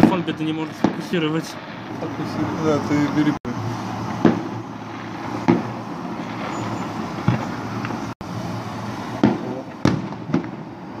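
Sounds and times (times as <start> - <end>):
fireworks bangs with echoes: 0.0 - 11.0
outdoor rumble: 0.0 - 11.0.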